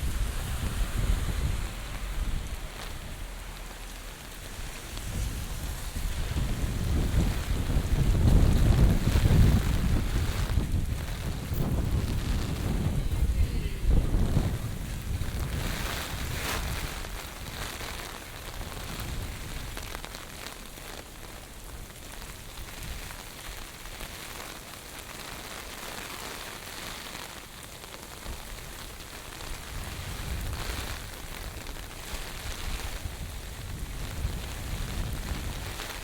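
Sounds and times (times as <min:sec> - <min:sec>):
wind gusts on microphone: 0:00.0 - 0:24.2, 0:28.3 - 0:36.0
heavy rain pattering: 0:00.0 - 0:36.0.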